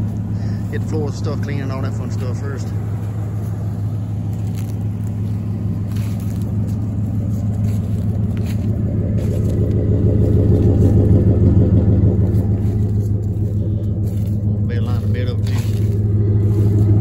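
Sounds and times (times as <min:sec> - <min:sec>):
truck engine idling rumble: 0:00.0 - 0:17.0.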